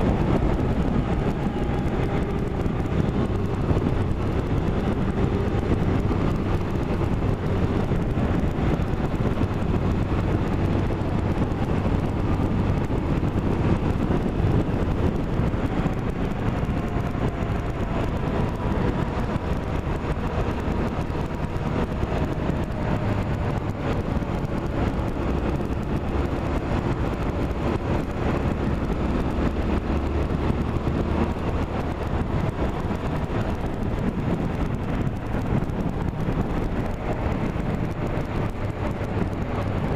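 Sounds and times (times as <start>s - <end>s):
road vehicle drone: 0.0s - 39.9s.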